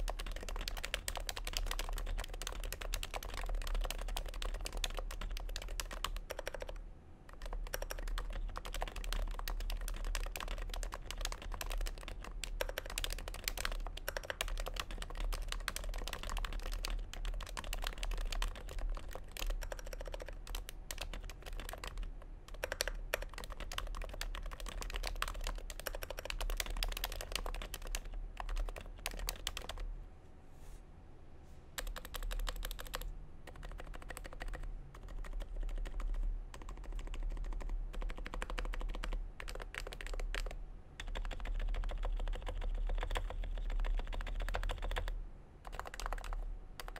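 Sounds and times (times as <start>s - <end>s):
keyboard typing: 0.0s - 29.8s, 31.8s - 46.9s.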